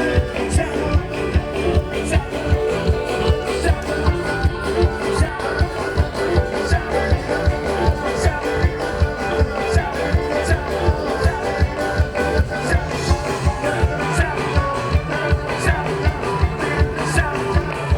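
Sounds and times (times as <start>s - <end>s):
live rock band playing: 0.0s - 17.9s.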